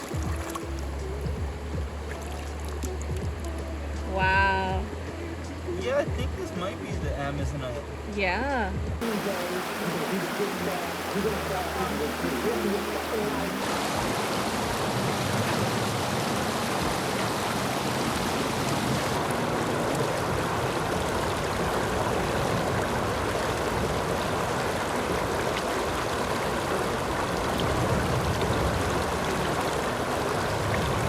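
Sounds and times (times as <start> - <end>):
creek water running over rocks: 0.0 - 8.1, 9.0 - 31.0.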